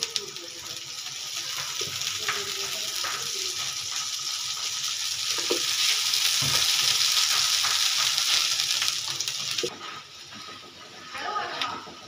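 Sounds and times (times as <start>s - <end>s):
ghee sizzling on hot iron pan: 0.0s - 12.0s.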